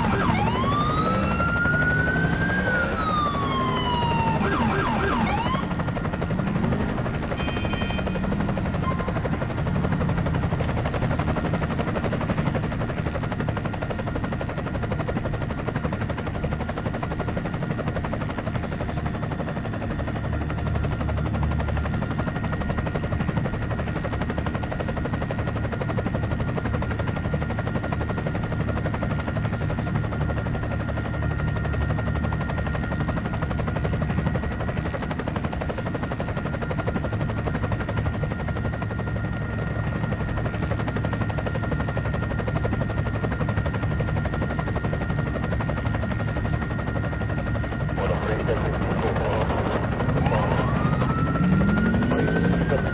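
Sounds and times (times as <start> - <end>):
helicopter running: 0.0 - 52.9.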